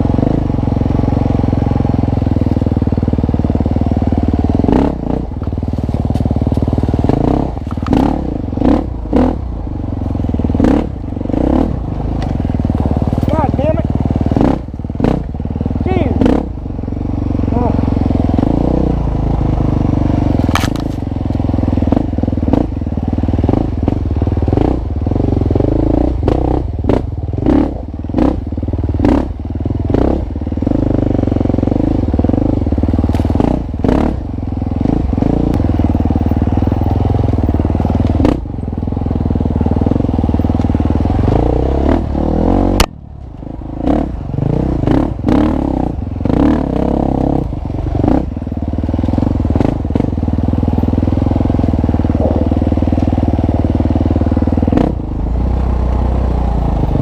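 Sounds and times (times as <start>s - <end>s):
bike knocking and rattling: 0.0s - 42.0s, 42.7s - 57.0s
dirt bike engine revving: 0.0s - 42.9s, 43.6s - 57.0s.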